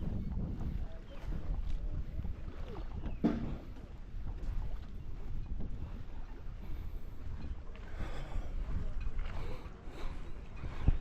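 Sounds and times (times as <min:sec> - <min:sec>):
faint outdoor background: 0:00.0 - 0:11.0
wind buffeting microphone: 0:00.0 - 0:11.0.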